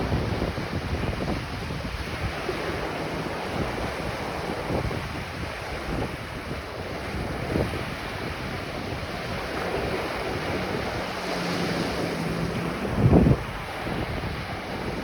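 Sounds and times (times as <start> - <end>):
ocean waves washing onto beach: 0.0 - 15.0
wind buffeting the microphone: 0.0 - 15.0.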